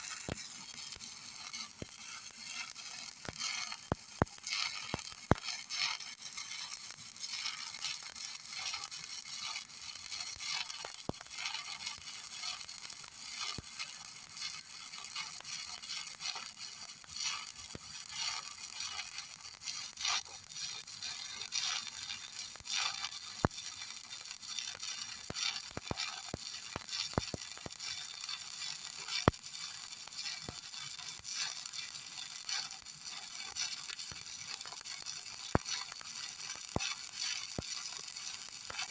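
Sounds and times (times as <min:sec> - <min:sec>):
sharp welding pops: 0:00.0 - 0:38.9
welding arc crackling: 0:00.0 - 0:38.9.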